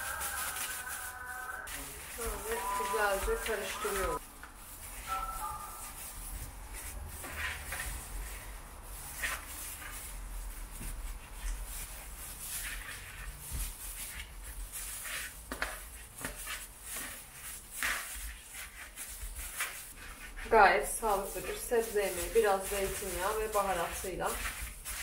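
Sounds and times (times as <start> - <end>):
rustling and crinkling of glove and paper: 0.0 - 25.0.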